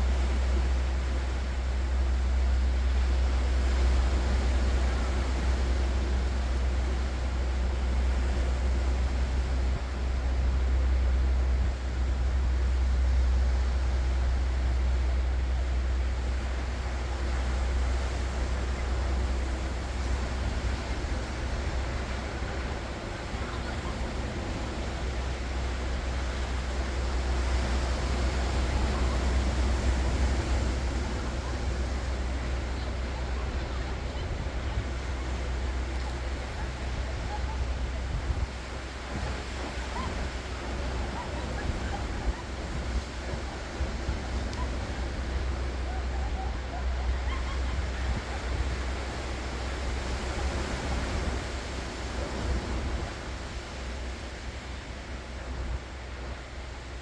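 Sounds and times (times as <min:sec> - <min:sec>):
ocean waves breaking: 0:00.0 - 0:57.0
wind rumbling on microphone: 0:00.0 - 0:57.0.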